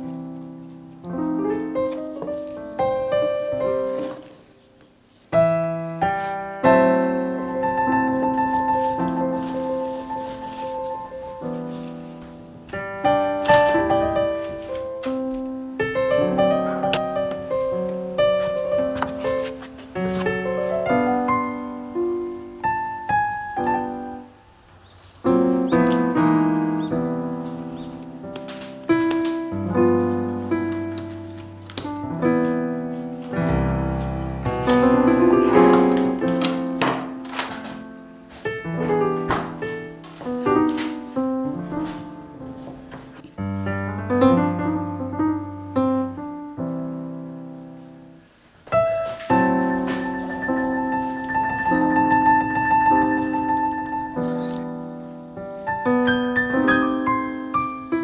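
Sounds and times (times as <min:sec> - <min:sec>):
solo piano music: 0:00.0 - 0:58.0.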